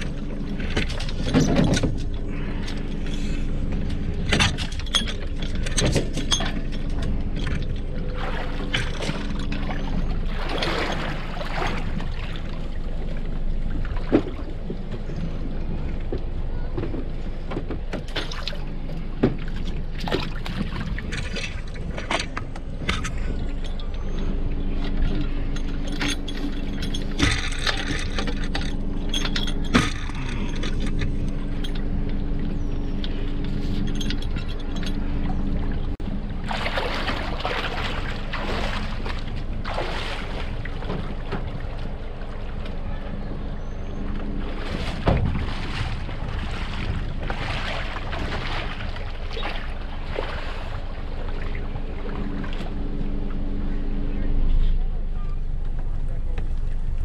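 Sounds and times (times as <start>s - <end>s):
low wind rumble: 0.0s - 57.0s
water splashing against hulls: 0.0s - 57.0s.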